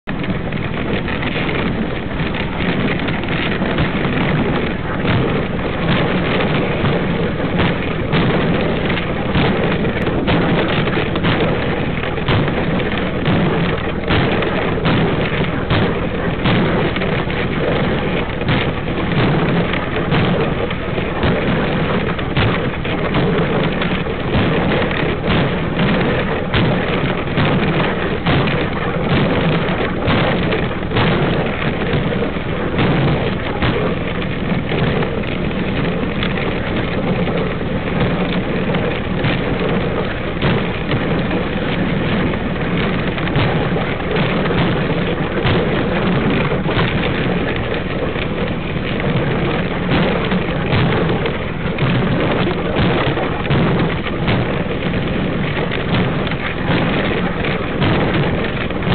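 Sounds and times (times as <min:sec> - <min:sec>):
sled knocking and rattling: 0:00.0 - 0:58.9
sled runners scraping snow: 0:00.1 - 0:58.9.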